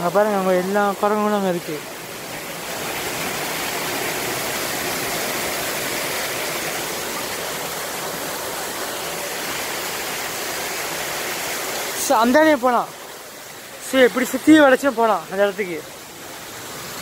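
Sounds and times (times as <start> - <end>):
waterfall rushing water: 0.0 - 17.0.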